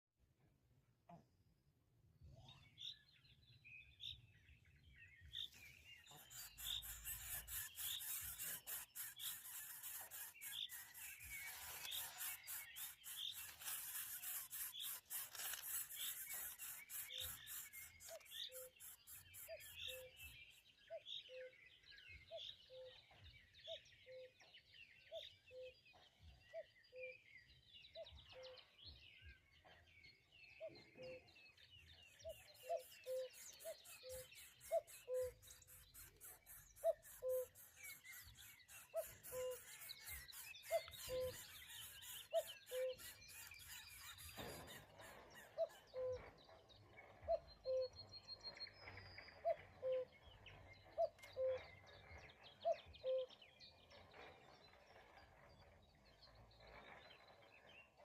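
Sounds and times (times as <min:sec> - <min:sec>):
bird high chirp: 0:02.3 - 0:58.0.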